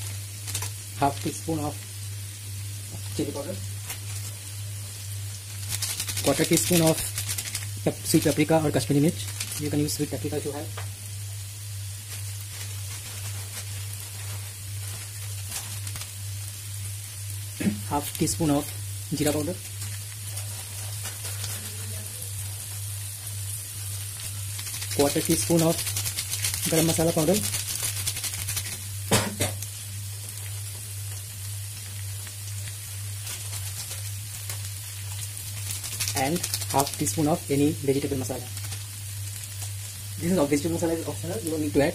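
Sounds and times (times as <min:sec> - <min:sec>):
constant low hum: 0:00.0 - 0:41.9
potatoes and onions sizzling in oil: 0:00.0 - 0:41.9.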